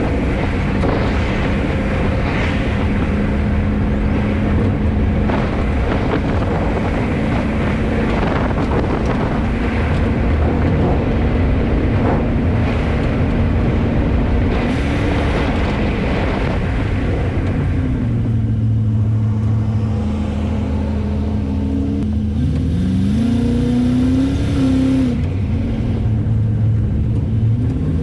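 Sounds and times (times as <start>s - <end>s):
engine hum: 0.0s - 28.0s
wind and road noise: 0.0s - 28.0s.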